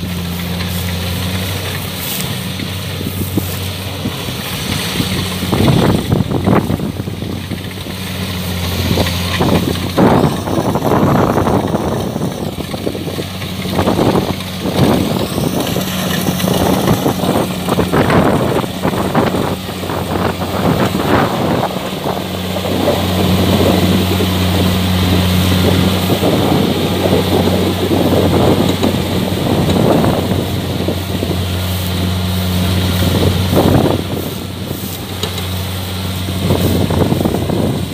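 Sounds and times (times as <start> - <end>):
combine harvester diesel hum: 0.0 - 37.9
wind noise on microphone: 0.0 - 37.9.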